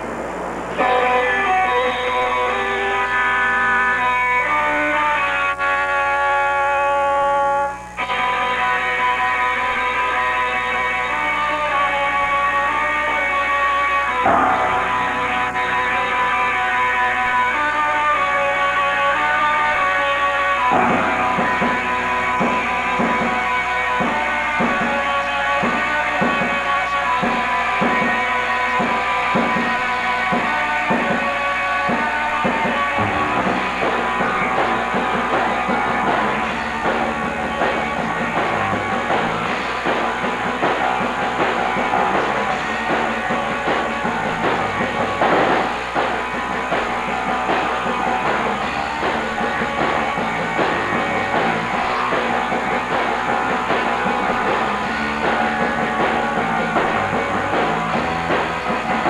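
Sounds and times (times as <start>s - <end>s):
live band with electric guitars: 0.7s - 6.9s, 7.7s - 59.0s.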